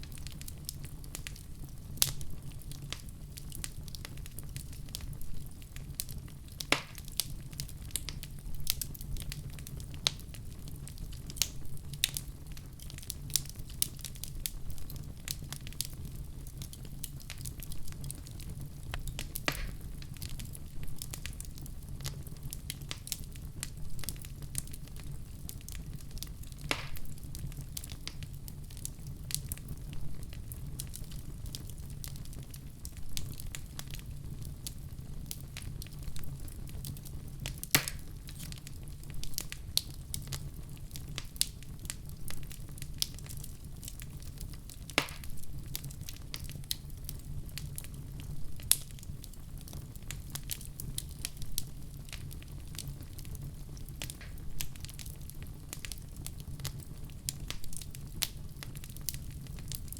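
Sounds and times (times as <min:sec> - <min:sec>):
wood fire crackling in fireplace: 0:00.0 - 0:59.9.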